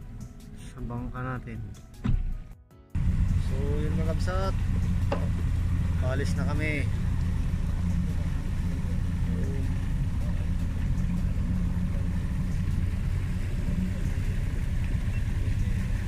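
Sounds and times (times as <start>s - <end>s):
boat motor rumbling: 0.0s - 2.4s, 3.0s - 16.0s
water rushing along hull: 3.0s - 16.0s.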